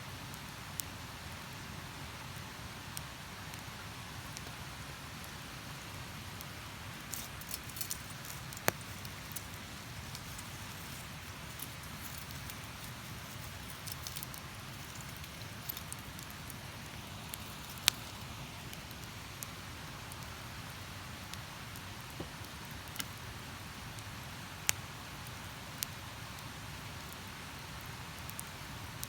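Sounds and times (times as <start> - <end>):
campfire crackling with pops: 2.3 - 29.0.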